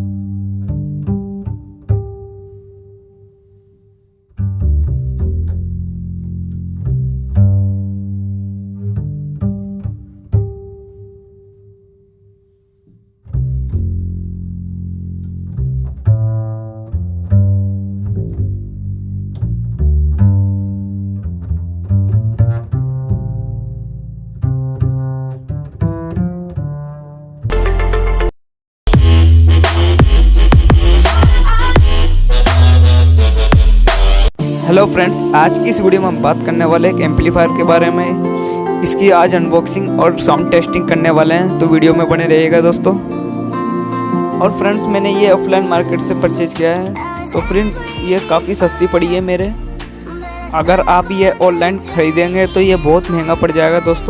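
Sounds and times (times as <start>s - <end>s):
plucked and bowed bass music: 0.0s - 28.3s, 28.9s - 54.0s.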